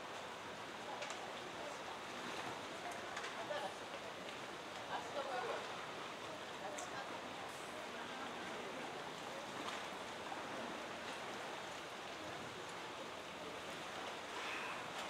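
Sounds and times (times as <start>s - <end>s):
faint splashes: 1.2s - 15.0s.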